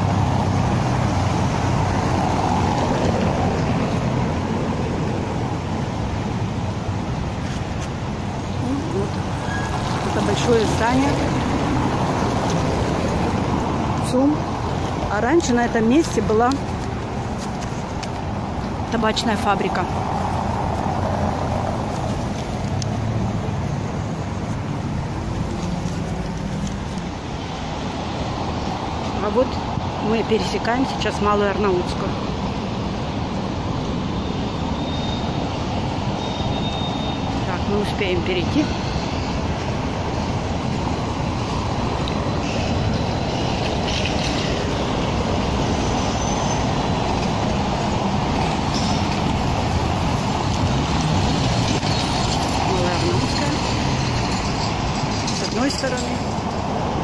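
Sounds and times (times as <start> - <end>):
traffic going by: 0.0 - 57.0.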